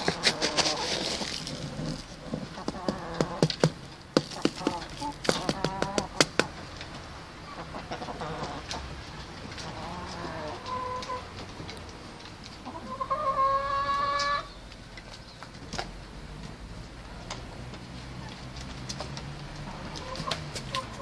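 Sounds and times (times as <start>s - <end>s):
chickens calling: 0.0s - 21.0s.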